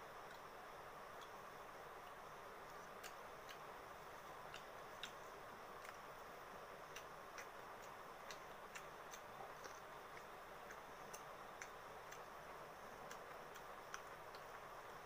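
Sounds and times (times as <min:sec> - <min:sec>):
faint regular ticking: 0:00.0 - 0:15.0
steady low hiss: 0:00.0 - 0:15.0.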